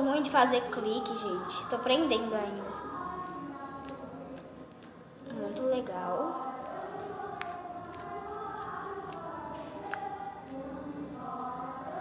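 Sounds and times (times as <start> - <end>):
faint background singing: 0.0 - 12.0.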